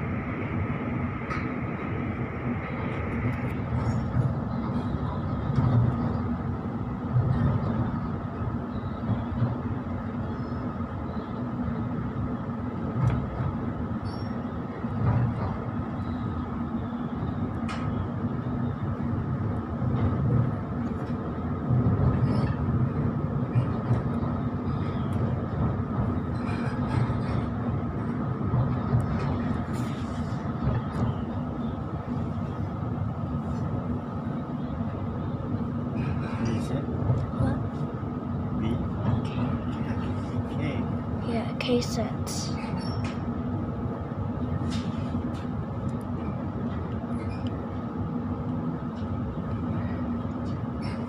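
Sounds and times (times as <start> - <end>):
constant hum: 0.0 - 51.0
train wheels rumbling on rail: 0.0 - 51.0.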